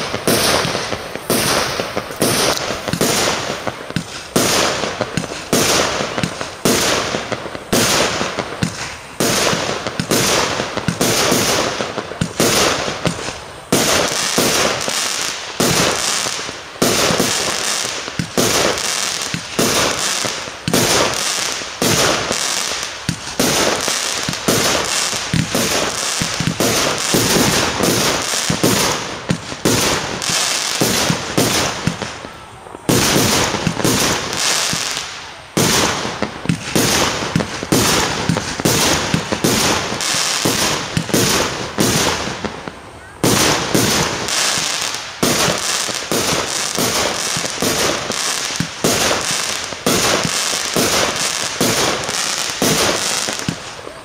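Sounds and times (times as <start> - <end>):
aerial fireworks bangs: 0.0 - 53.8.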